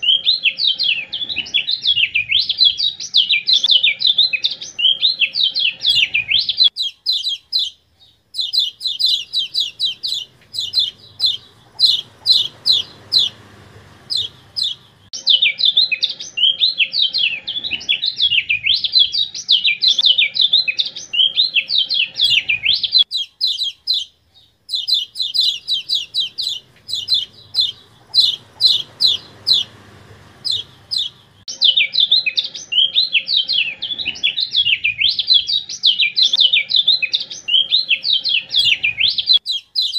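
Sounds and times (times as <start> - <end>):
bird chattering and warbling: 0.0 - 39.9.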